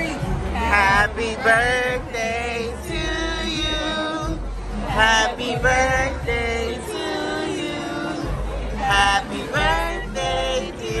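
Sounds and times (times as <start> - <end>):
group singing together: 0.0 - 11.0.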